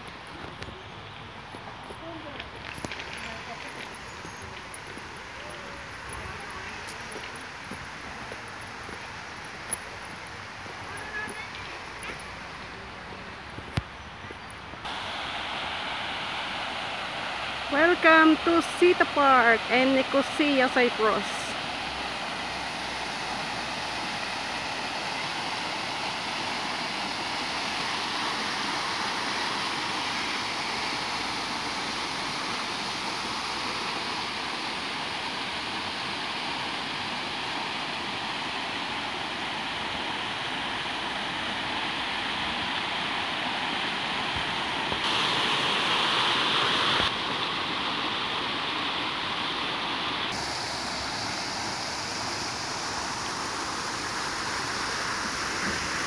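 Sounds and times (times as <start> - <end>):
fountain water splashing: 0.0 - 13.9, 14.8 - 56.0.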